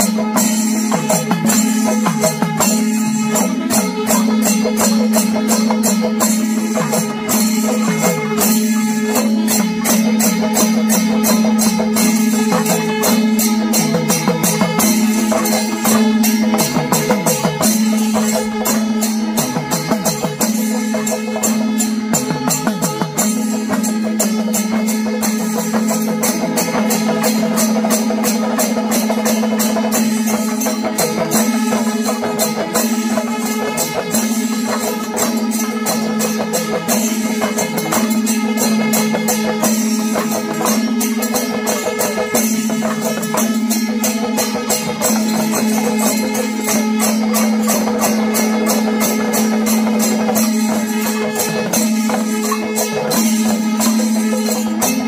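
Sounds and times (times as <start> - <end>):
cymbal and drum strokes: 0.0 - 55.0.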